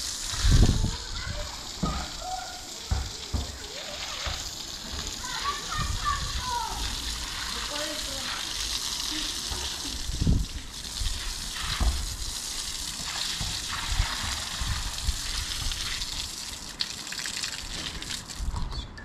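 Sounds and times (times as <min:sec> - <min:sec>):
hose water splashing on concrete: 0:00.0 - 0:18.7.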